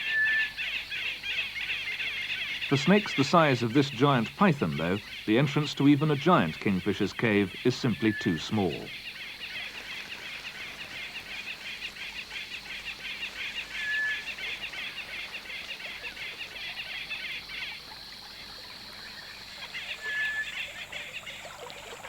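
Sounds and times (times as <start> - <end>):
birds chirping: 0.0 - 18.1
high hiss of natural ambience: 0.0 - 22.0.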